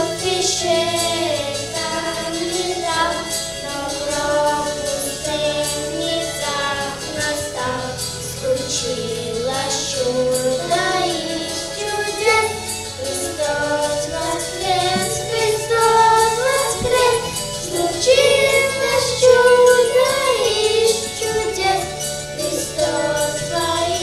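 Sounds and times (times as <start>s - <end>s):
children's choir singing: 0.0s - 24.0s
instrumental accompaniment with bass: 0.0s - 24.0s.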